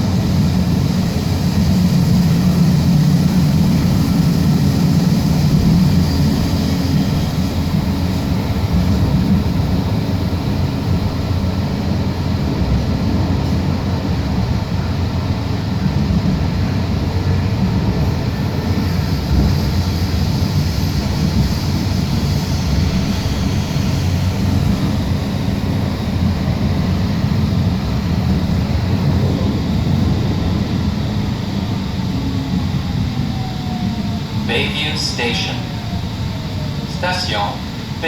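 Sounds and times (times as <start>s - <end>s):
train wheels rumbling on rails: 0.0s - 34.5s.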